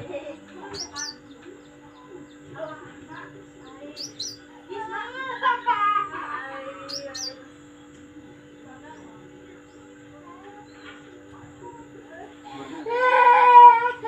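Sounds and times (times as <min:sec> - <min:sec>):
songbirds chirping: 0:00.0 - 0:12.9
low steady hum: 0:00.0 - 0:14.0.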